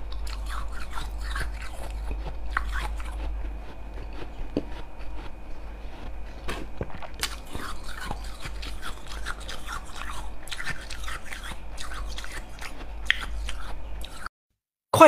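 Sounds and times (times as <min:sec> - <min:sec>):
chewing crunchy ice: 0:00.0 - 0:14.3.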